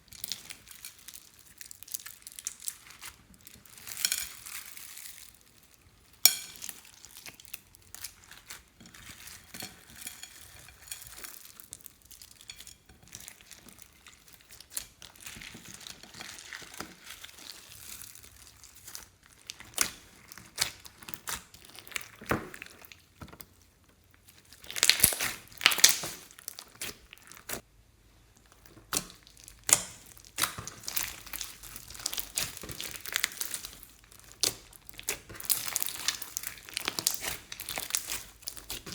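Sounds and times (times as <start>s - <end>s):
slime squishing and crackling: 0.0s - 27.6s, 28.3s - 38.9s.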